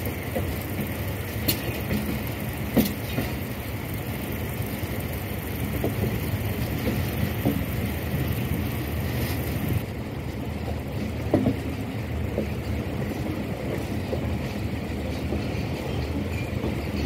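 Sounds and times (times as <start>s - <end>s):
train rumble from inside coach: 0.0s - 17.0s.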